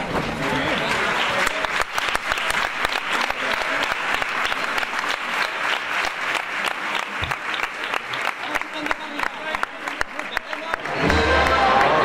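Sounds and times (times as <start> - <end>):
large crowd applauding: 0.0 - 12.0.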